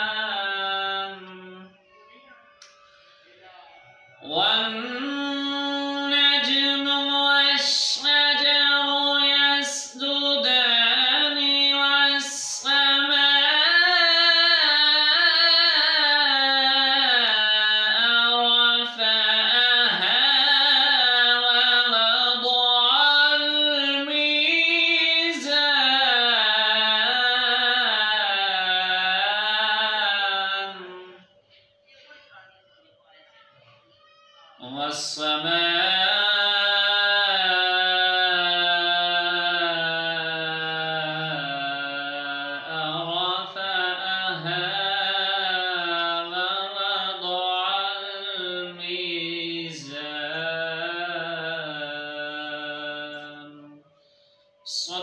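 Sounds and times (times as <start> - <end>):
man chanting recitation: 0.0 - 31.4, 34.6 - 53.9, 54.6 - 55.0.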